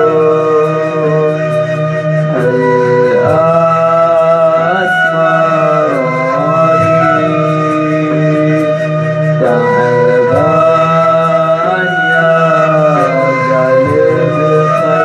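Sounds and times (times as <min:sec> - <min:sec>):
reedy wind instrument melody: 0:00.0 - 0:15.0
steady low drone: 0:00.0 - 0:15.0.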